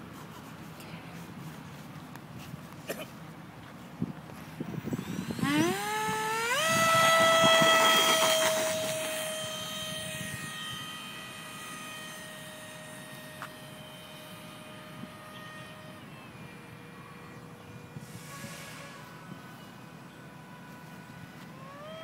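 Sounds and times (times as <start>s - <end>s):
electric ducted fan whine: 0.0s - 22.0s.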